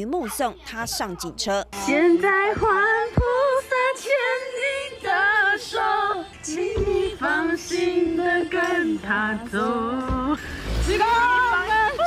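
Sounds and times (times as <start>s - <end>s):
women singing unaccompanied: 1.6s - 12.0s.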